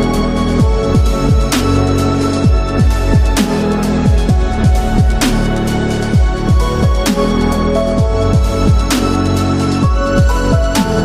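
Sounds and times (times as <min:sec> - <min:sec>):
deep pitch-dropping kick drum: 0:00.0 - 0:11.0
electronic background music: 0:00.0 - 0:11.0.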